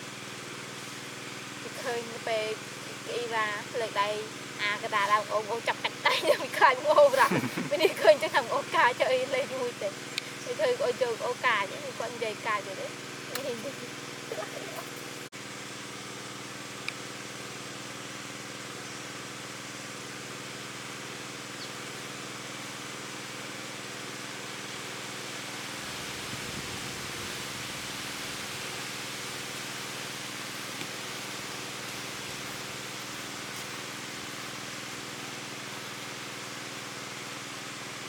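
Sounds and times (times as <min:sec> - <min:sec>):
low steady hum: 0:00.0 - 0:38.0
outdoor background hiss: 0:00.0 - 0:38.0.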